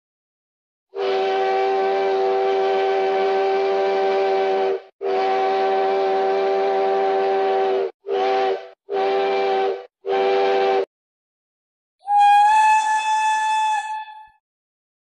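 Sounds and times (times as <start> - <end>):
deep steam whistle blasts: 0.9 - 10.9, 12.0 - 14.4
higher steam whistle: 0.9 - 10.9, 12.0 - 14.4.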